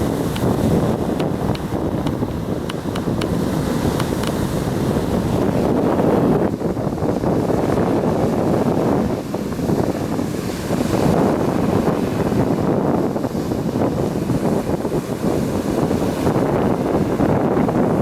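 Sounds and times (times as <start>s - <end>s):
sea surf on shore: 0.0s - 18.0s
wind buffeting microphone: 0.0s - 18.0s.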